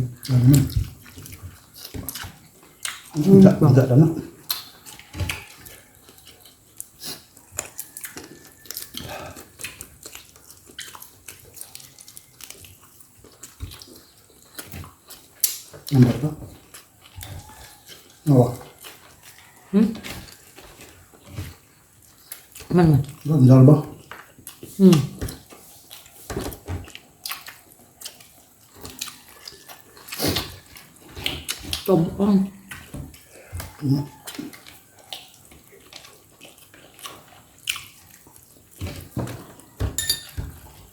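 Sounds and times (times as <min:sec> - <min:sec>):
wet chewing and lip-smacking: 0:00.1 - 0:03.6, 0:04.2 - 0:40.9.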